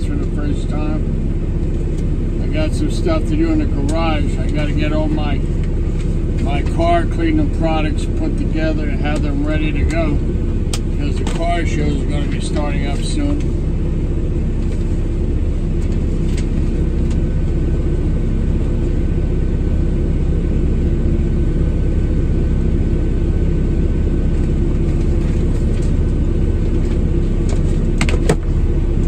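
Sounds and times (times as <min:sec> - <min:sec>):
truck diesel engine idling: 0:00.0 - 0:29.0.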